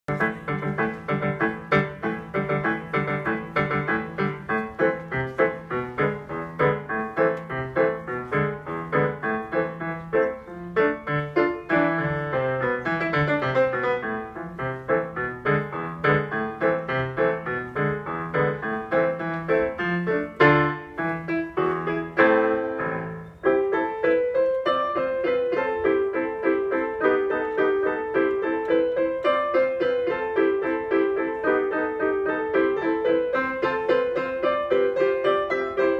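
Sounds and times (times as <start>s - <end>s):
solo piano piece: 0.0s - 35.9s.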